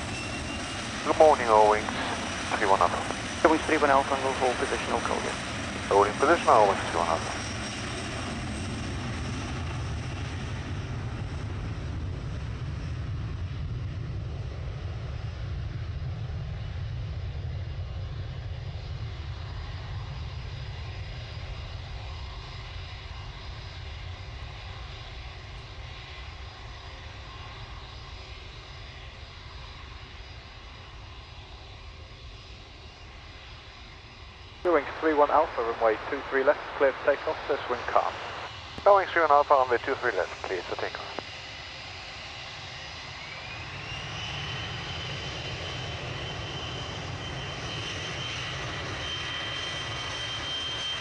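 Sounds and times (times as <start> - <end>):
airliner engines roaring at takeoff: 0.0 - 51.0.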